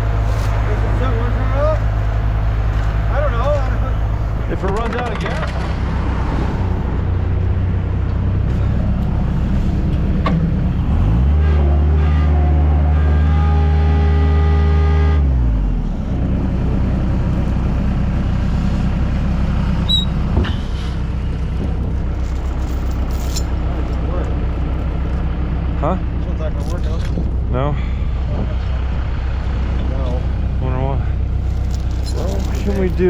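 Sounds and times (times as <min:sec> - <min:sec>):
engine idling and revving: 0:00.0 - 0:33.0.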